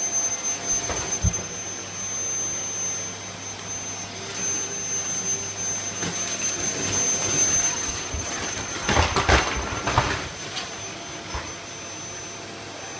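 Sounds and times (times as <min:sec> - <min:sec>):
vacuum cleaner whining: 0:00.0 - 0:12.9.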